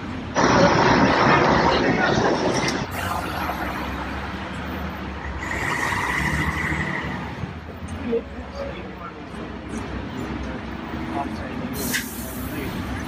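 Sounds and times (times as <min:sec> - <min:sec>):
bus diesel engine running: 0:00.0 - 0:13.0
street noise: 0:00.0 - 0:13.0.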